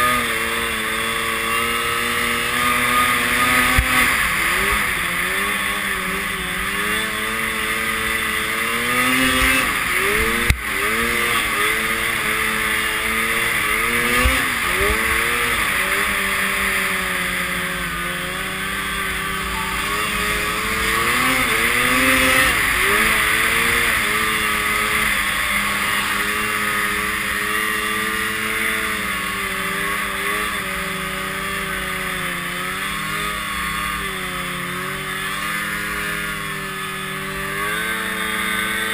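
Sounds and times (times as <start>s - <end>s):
steady rushing noise: 0.0s - 32.0s
snowmobile engine revving: 0.0s - 38.9s.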